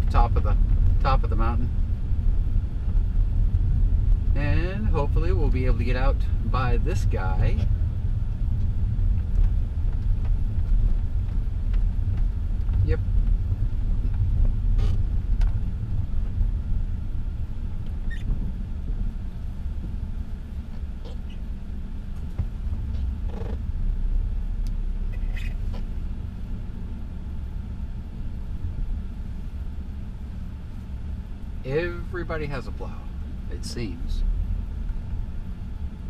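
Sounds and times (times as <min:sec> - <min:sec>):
vehicle rumble driving on snow: 0:00.0 - 0:36.0.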